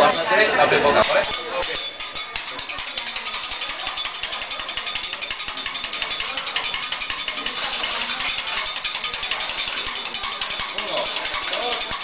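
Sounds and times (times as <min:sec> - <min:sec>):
metal spatulas clacking on griddle: 0:00.8 - 0:12.0.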